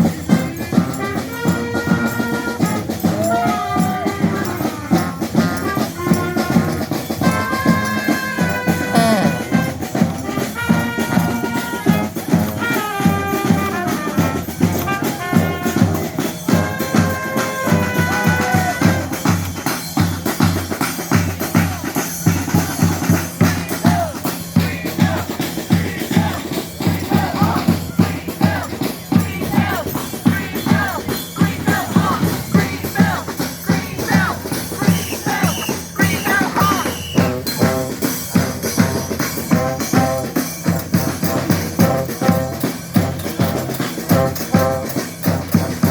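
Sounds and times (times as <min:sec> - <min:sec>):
brass band playing: 0:00.0 - 0:19.3, 0:21.4 - 0:45.9
bass and snare drum beat: 0:00.0 - 0:45.9.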